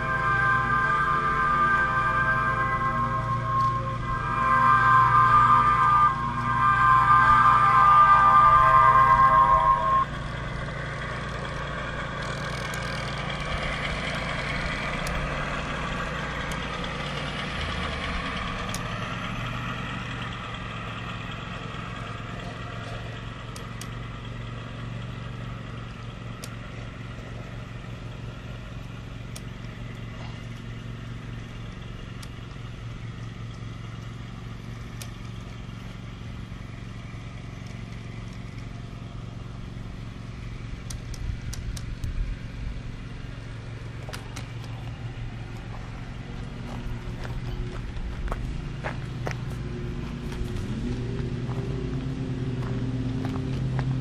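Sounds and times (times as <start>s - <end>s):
model train humming on track: 0.0s - 54.0s.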